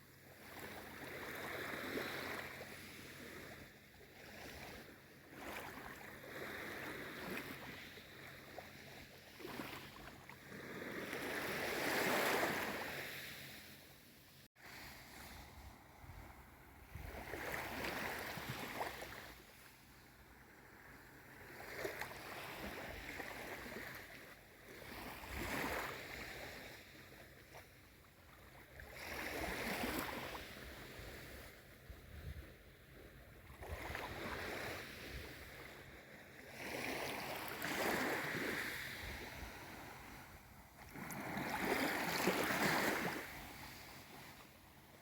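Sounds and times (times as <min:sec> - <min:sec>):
small waves washing in: 0:00.1 - 0:45.0.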